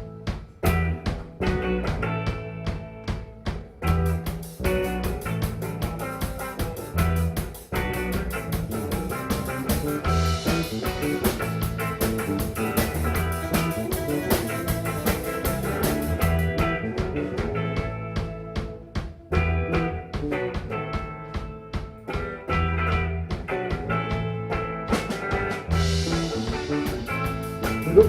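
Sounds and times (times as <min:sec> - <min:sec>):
drum kit beat: 0:00.0 - 0:28.0
live band playing: 0:00.0 - 0:28.0.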